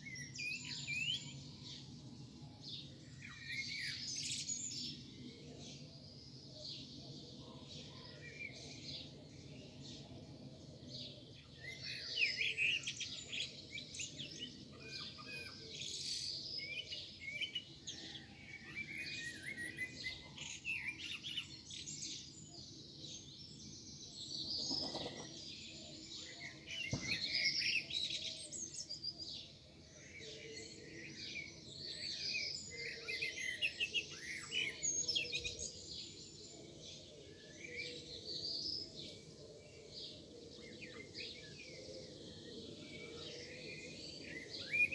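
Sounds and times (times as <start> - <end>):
songbirds singing and chirping: 0.0 - 44.9.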